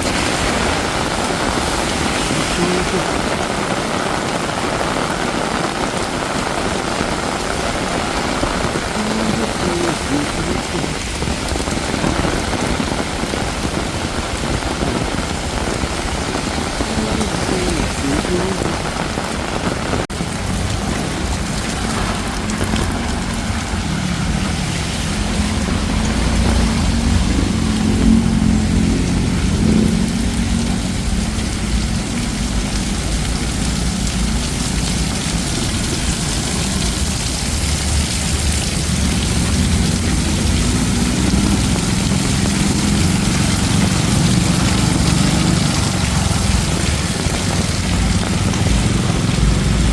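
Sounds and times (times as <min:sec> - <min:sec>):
heavy rain splashing: 0:00.0 - 0:49.9.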